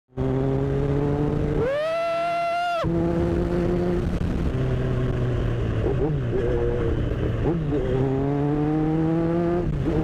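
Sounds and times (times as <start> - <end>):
motorcycle engine idling and revving: 0.1 - 10.0.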